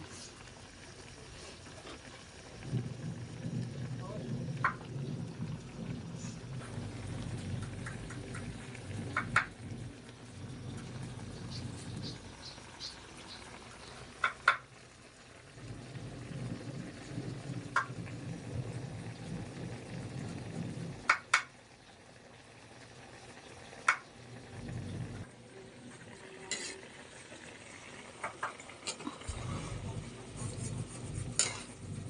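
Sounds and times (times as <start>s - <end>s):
meat sizzling in a pan: 0.0s - 32.0s.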